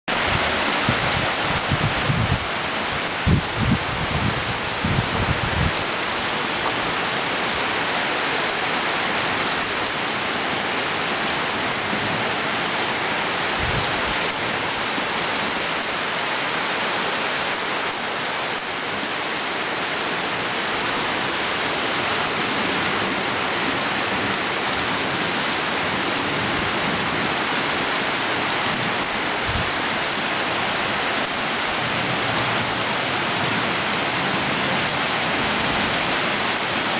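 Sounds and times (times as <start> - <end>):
heavy rain on thatch roof: 0.1 - 36.9.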